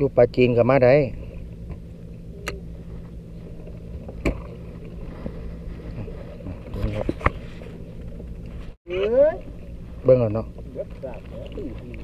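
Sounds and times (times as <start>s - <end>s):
boat engine idling: 0.2s - 12.0s.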